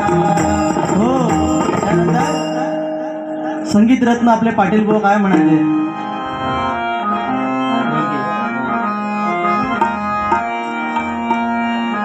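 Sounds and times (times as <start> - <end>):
harmonium chords: 0.0 - 12.0.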